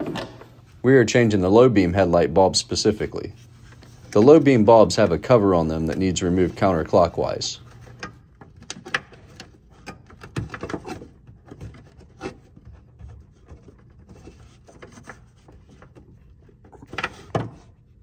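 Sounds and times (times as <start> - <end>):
plastic rubbing and scraping: 3.3 - 18.0.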